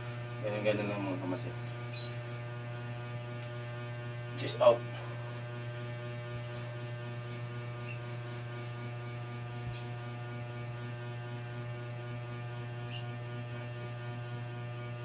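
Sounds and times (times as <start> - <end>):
faint pulsing high tone: 0.0 - 15.0
steady low hum: 0.0 - 15.0.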